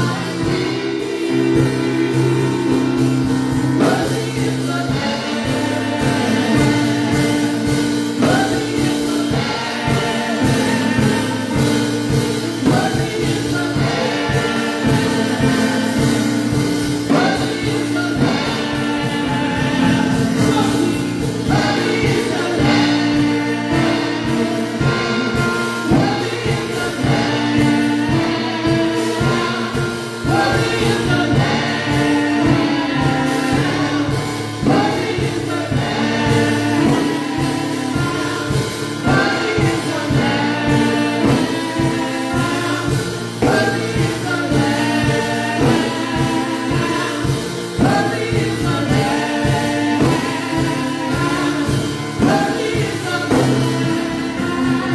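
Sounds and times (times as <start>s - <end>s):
band with steady beat: 0.0s - 54.9s
choir singing: 0.0s - 54.9s.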